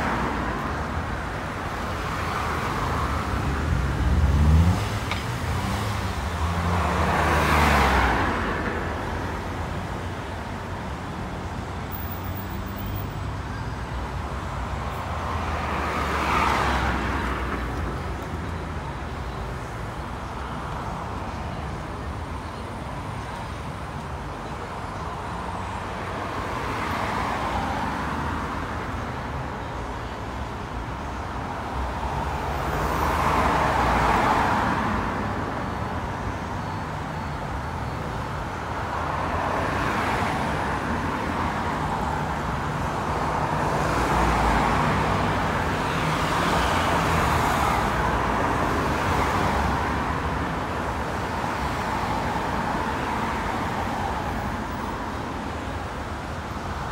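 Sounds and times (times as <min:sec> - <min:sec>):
vehicles passing: 0:00.0 - 0:56.9.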